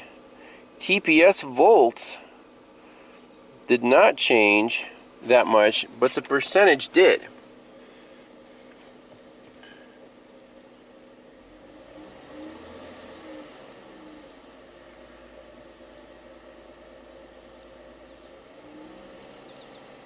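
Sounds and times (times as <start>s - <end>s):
car engine idling: 0.0s - 20.0s
crickets chirping: 0.0s - 20.0s.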